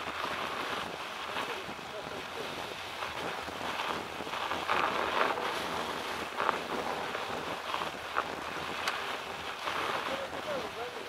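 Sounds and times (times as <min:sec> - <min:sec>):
snow crunches: 0:00.0 - 0:11.0
tyres rolling on snow: 0:00.0 - 0:11.0
wind buffeting microphone: 0:00.0 - 0:11.0.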